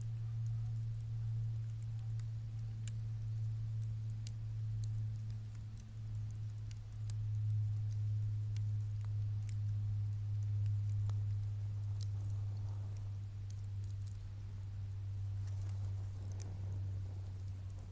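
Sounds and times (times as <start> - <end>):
bamboo fire crackling and popping: 0.0 - 17.9
low hum: 0.0 - 17.9.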